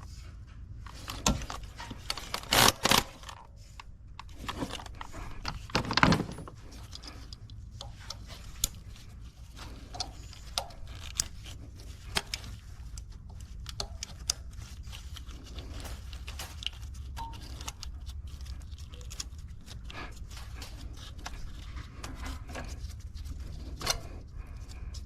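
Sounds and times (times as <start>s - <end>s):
steady low hum: 0.0s - 25.0s
tools clicking and tapping on engine: 0.0s - 25.0s.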